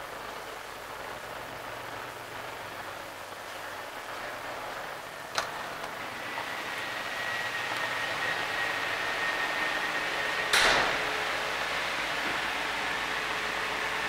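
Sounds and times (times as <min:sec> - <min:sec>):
ship ventilation and machinery: 0:00.0 - 0:14.0.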